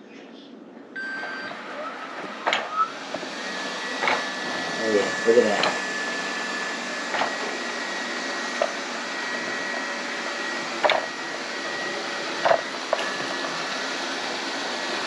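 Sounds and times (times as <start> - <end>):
robot vacuum whirring: 1.0 - 15.0.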